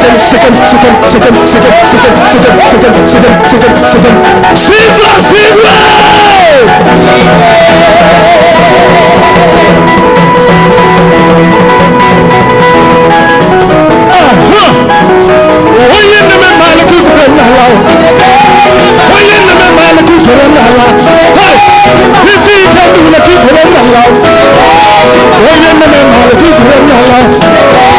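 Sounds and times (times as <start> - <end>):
singer with wavering voice: 0.0 - 10.4, 15.7 - 27.9
band holding sustained chords: 0.0 - 27.9.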